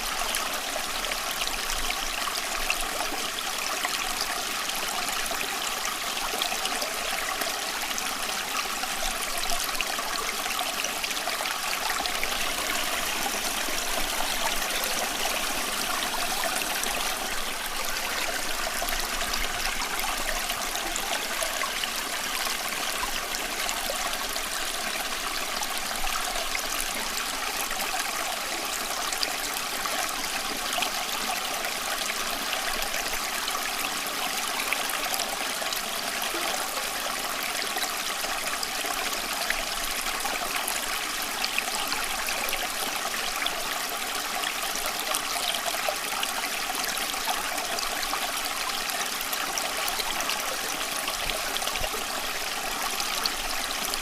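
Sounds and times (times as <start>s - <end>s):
water flowing over stones: 0.0s - 54.0s.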